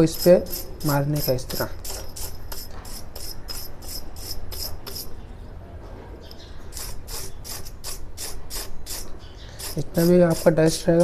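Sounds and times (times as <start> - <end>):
wire brush scrubbing metal: 0.0 - 5.1, 6.7 - 11.0.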